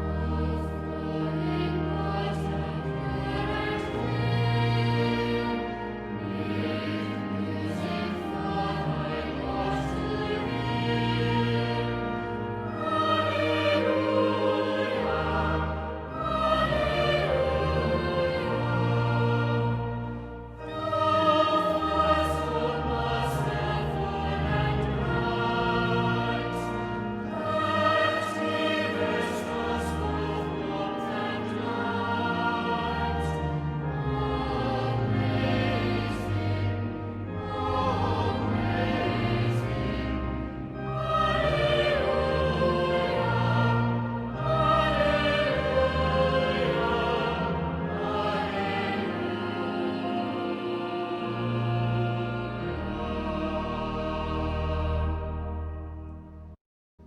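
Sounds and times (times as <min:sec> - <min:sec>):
choir singing: 0:00.0 - 0:56.6.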